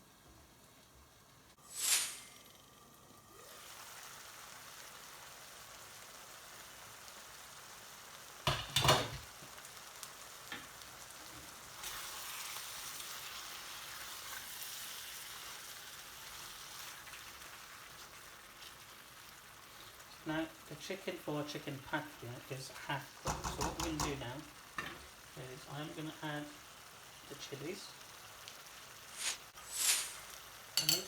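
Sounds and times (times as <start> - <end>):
curry sizzling in a pan: 0.0 - 31.0.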